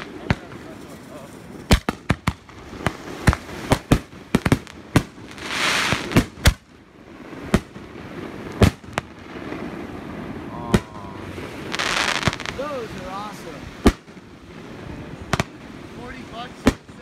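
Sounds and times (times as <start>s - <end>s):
fireworks banging: 0.0s - 17.0s.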